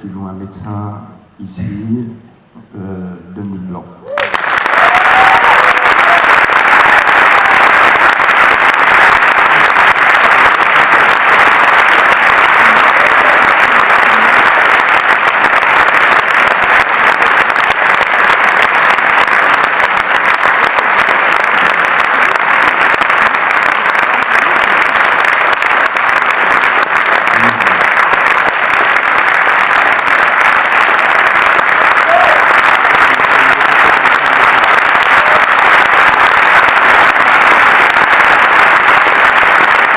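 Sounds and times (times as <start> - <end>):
large audience applauding: 4.0 - 39.9.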